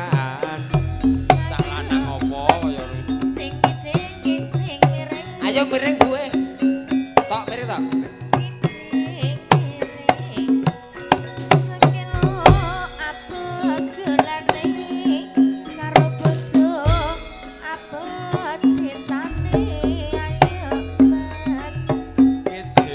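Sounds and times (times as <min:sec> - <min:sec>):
woman singing: 0:00.0 - 0:06.6, 0:07.6 - 0:22.9
sustained pitched band notes: 0:00.0 - 0:09.5, 0:10.6 - 0:22.9
hand drum pattern: 0:00.0 - 0:22.9.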